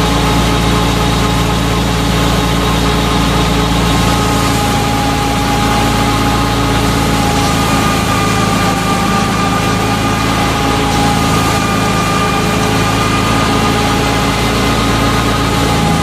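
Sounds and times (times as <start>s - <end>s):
high machine whine: 0.0s - 16.0s
thresher machine drone: 0.0s - 16.0s.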